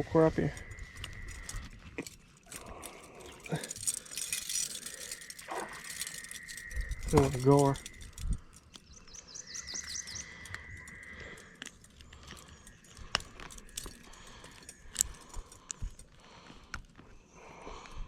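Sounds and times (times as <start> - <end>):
birds singing high chirps: 0.0 - 18.0
small clicks and ticks: 0.4 - 17.1.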